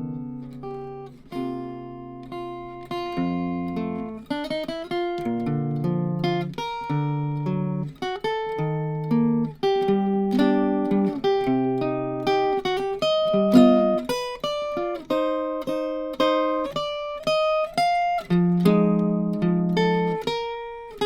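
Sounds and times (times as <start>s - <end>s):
acoustic jazz guitar: 0.0s - 21.0s.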